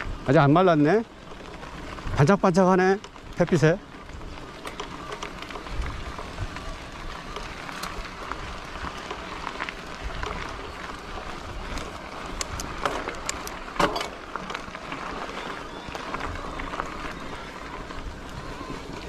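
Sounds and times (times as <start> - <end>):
bike rattles and clicks: 0.0 - 19.0
bike tyres rolling: 0.0 - 19.0.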